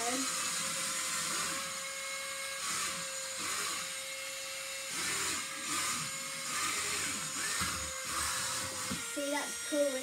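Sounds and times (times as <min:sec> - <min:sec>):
suction fan high whir: 0:00.0 - 0:10.0
toy car motor whine: 0:00.0 - 0:10.0.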